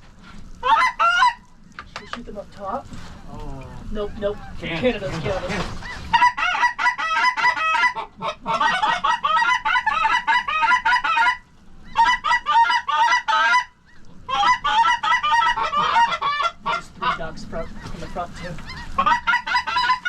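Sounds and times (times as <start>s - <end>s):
goose honking and clucking: 0.6s - 2.2s, 3.9s - 20.0s.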